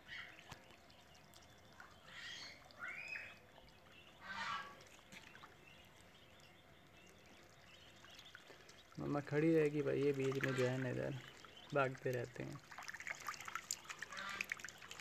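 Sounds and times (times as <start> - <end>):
ducklings calling faintly: 0.0 - 9.2, 10.0 - 12.6, 13.3 - 14.9.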